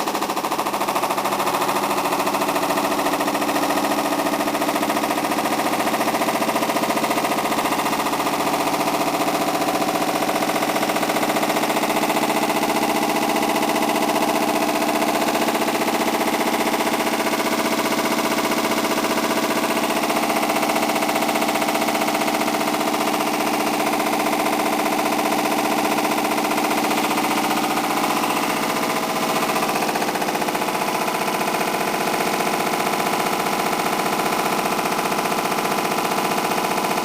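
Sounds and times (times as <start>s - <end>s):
fast rattle: 0.0s - 37.0s
washing machine spinning: 0.0s - 37.0s.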